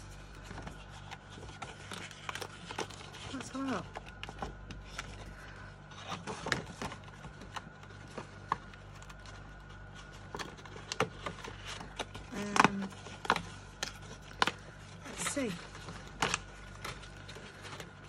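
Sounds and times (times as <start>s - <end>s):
low steady hum: 0.0s - 18.0s
paper rustling and tapping: 0.0s - 18.0s.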